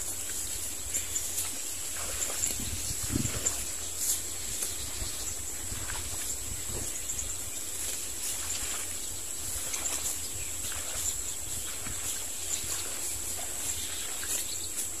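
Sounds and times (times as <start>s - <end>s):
wind on microphone rumble: 0.0s - 15.0s.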